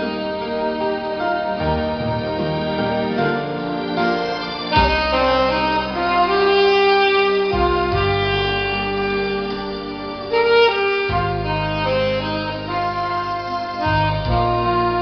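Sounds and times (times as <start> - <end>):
keyboard accompaniment: 0.0 - 15.0
saxophone slow melody: 0.0 - 15.0.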